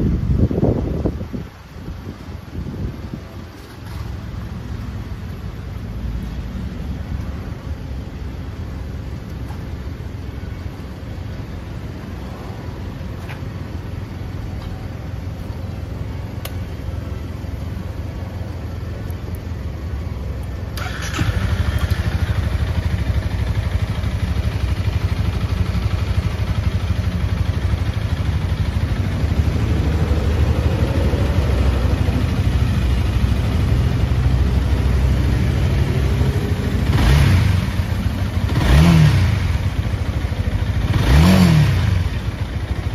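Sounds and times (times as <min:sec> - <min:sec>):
motorcycle engine idling: 0:02.1 - 0:42.9.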